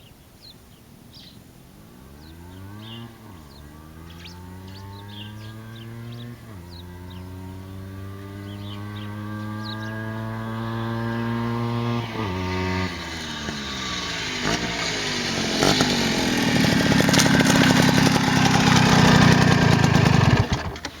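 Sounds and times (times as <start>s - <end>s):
moped engine passing: 1.2s - 21.0s.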